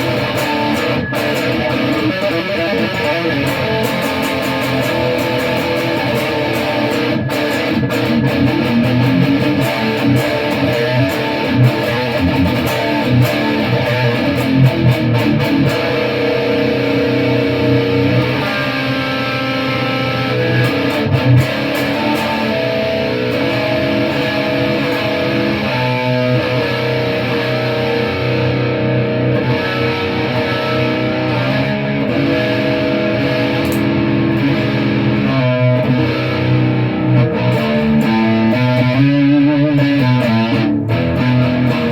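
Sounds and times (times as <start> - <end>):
electric guitar riffing: 0.0 - 41.9.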